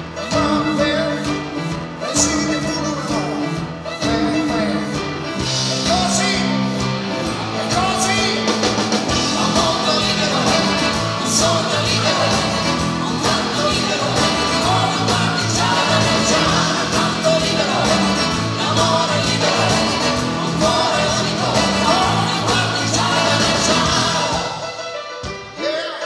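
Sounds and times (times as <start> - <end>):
live rock band: 0.0 - 25.9
man singing: 0.1 - 6.7, 7.5 - 24.7.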